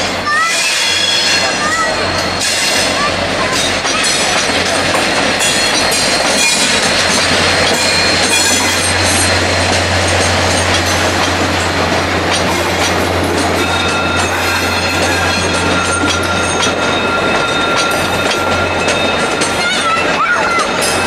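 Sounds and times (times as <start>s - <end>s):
diesel locomotive droning: 0.0s - 21.0s
train wheels squealing: 0.0s - 21.0s
wheels clicking over track: 2.0s - 21.0s.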